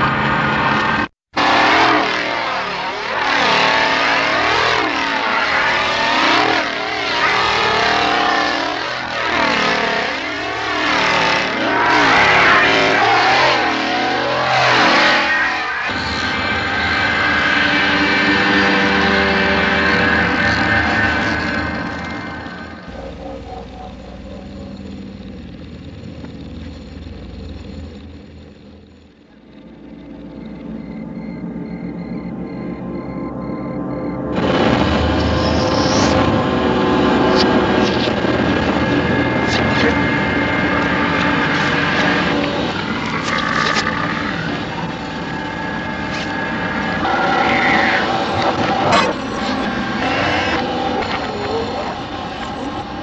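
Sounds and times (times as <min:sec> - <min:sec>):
reversed engine-like drone: 0:00.0 - 0:53.0.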